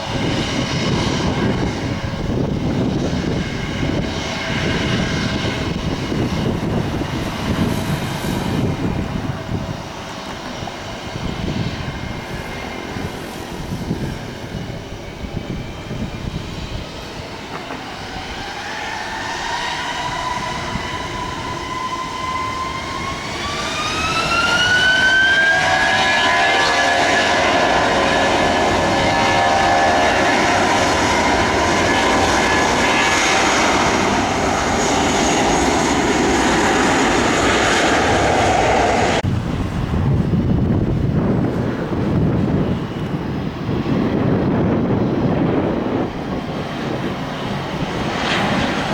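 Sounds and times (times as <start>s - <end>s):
jet engines rumbling and whining: 0.0s - 48.9s.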